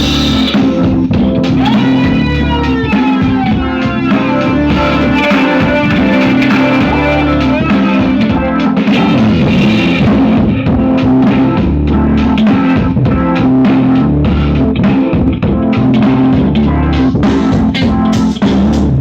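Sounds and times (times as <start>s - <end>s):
song with heavy bass on speaker: 0.0s - 19.0s.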